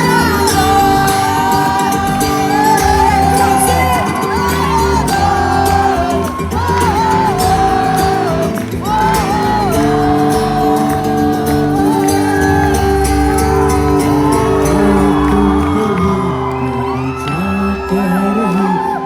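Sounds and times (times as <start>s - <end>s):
rock band playing live: 0.0s - 15.8s.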